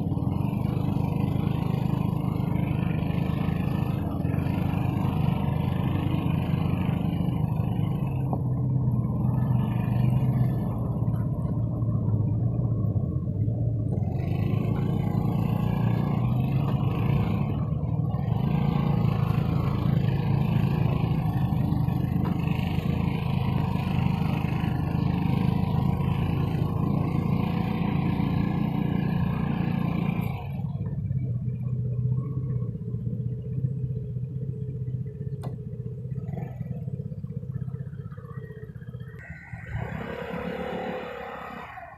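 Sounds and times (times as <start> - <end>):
diesel truck engine rumbling: 0.0 - 41.9.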